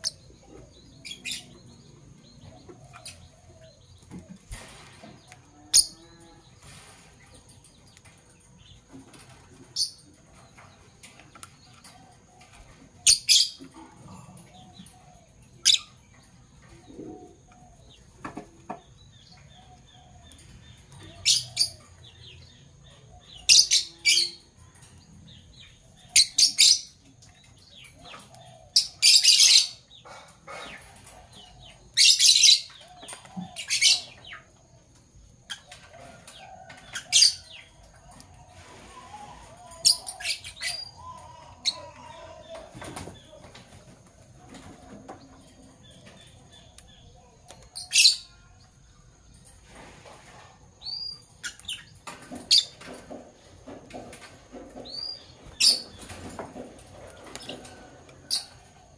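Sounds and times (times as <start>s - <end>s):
lovebirds chirping: 0.0s - 58.9s.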